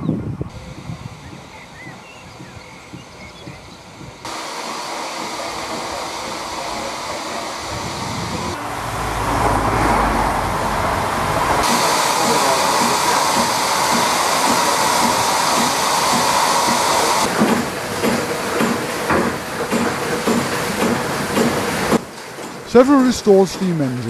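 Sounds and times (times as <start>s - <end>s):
steam hissing: 0.5s - 24.0s
machinery clanking and knocking: 2.3s - 24.0s.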